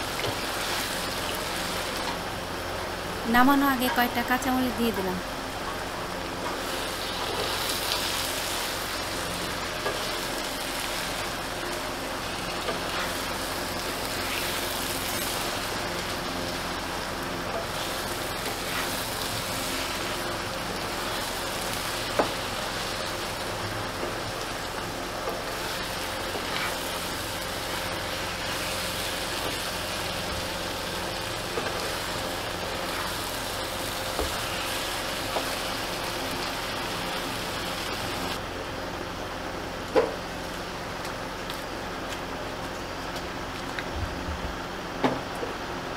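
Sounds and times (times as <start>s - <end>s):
greens sizzling in oil: 0.0s - 38.8s.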